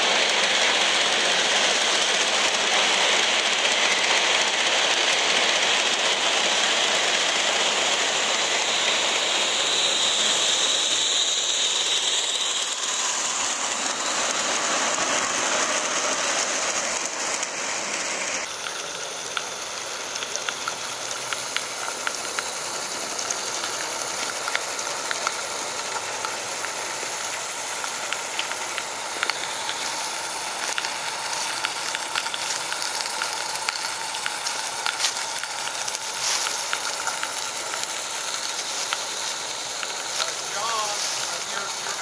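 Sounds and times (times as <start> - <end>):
steam hissing: 0.0 - 42.0.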